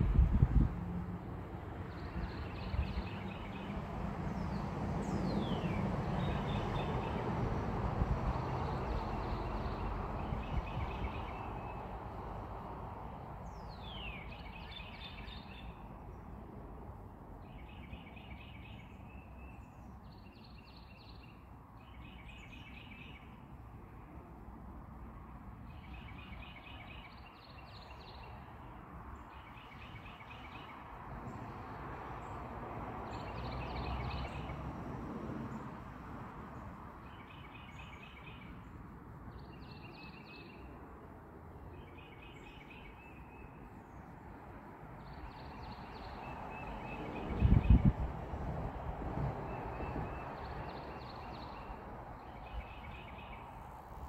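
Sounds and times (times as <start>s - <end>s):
songbirds chirping: 1.4s - 54.0s.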